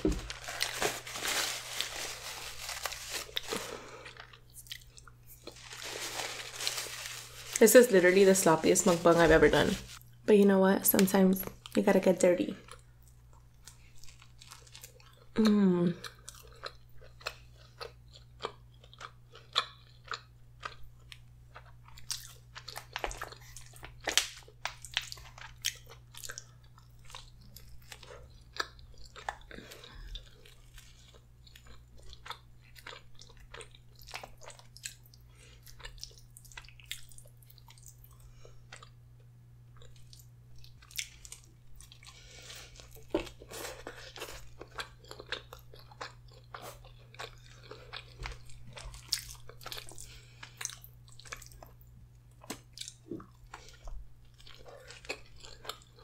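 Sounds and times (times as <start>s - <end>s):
person chewing bread: 0.0s - 7.6s, 12.6s - 56.0s.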